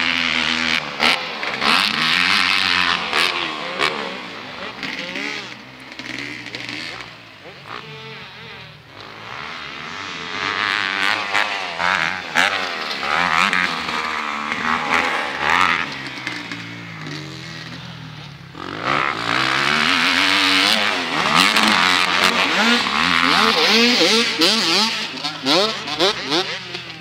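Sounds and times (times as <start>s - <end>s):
dirt bikes revving: 0.0s - 27.0s.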